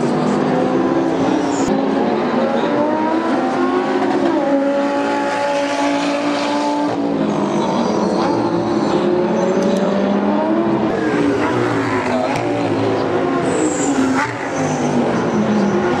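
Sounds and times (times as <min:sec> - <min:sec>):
race car engine at high revs: 0:00.0 - 0:16.0.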